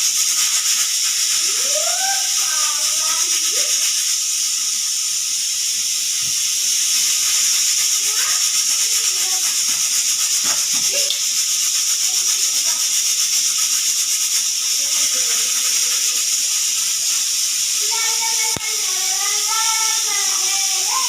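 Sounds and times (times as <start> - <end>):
pressure cooker whistle hissing: 0.0 - 21.0.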